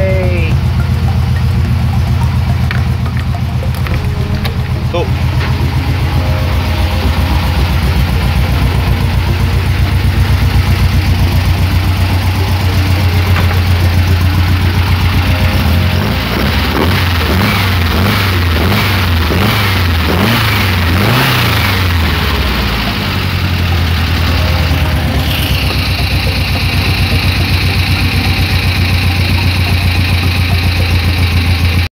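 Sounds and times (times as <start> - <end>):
high steady whine: 0.0 - 31.8
car engine revving and idling: 0.2 - 31.9.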